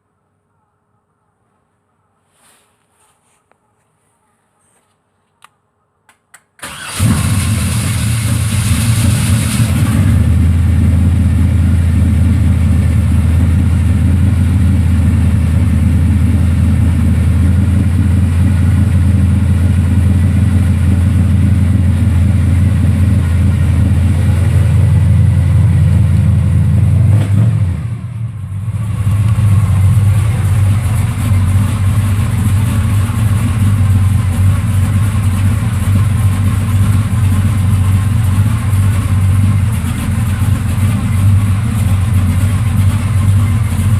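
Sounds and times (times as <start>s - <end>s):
car engine starting and running: 6.6s - 43.9s.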